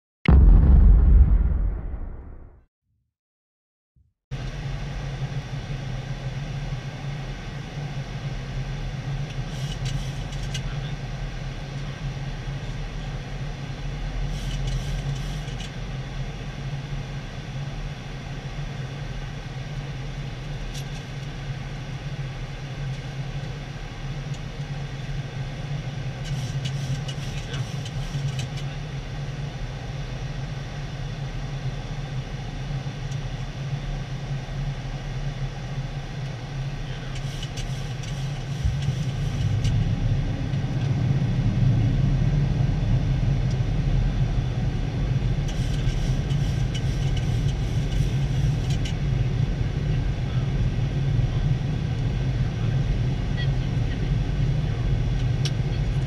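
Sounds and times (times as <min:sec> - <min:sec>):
airplane cockpit engine drone: 0:00.3 - 0:02.4, 0:04.4 - 0:56.0.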